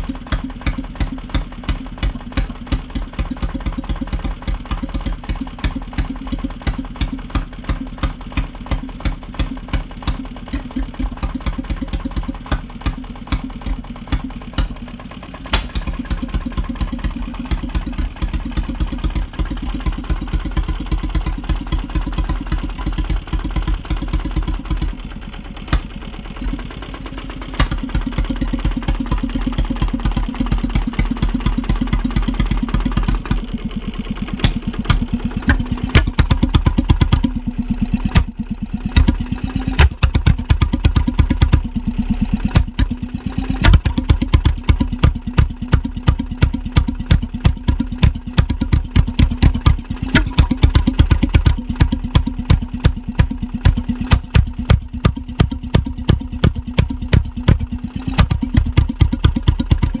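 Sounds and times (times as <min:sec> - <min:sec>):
stationary oil engine running: 0:00.0 - 1:00.0.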